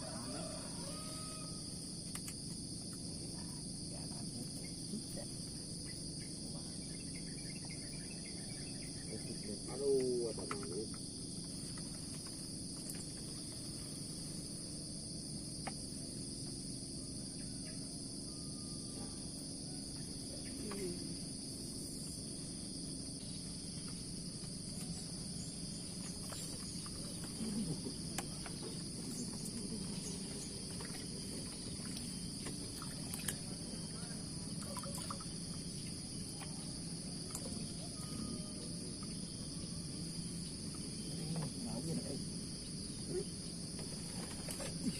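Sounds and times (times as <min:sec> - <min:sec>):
insects chirping: 0:00.0 - 0:44.9
low steady hum: 0:00.0 - 0:44.9.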